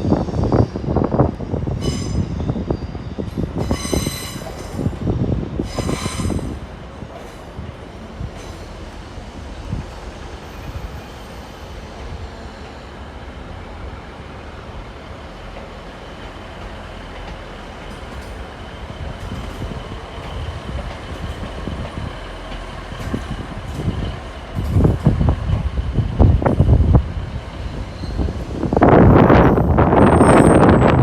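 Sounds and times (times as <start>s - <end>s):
train rumbling through station: 0.0s - 31.0s.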